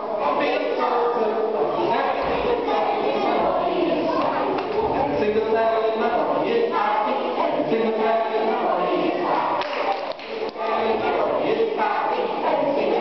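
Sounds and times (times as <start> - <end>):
children singing in unison: 0.0 - 13.0.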